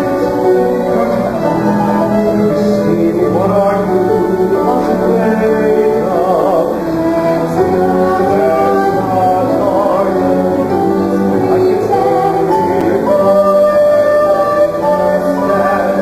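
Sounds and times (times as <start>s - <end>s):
instrumental accompaniment: 0.0s - 16.0s
man and woman singing: 0.0s - 16.0s.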